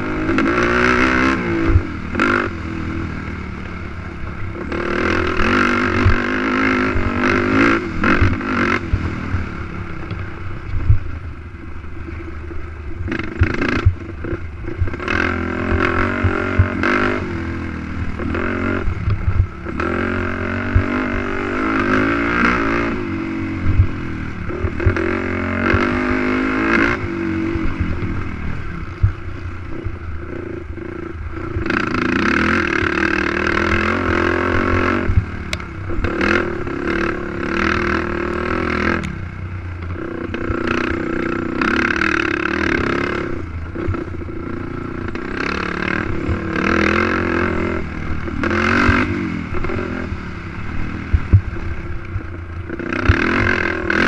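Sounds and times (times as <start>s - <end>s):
quad engine revving: 0.0s - 10.2s, 13.0s - 54.0s.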